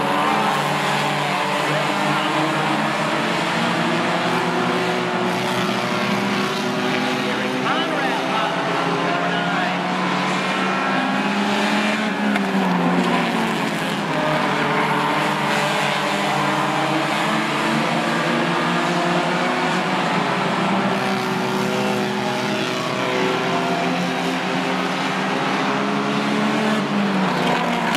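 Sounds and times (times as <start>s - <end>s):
racing car engines droning: 0.0s - 27.9s.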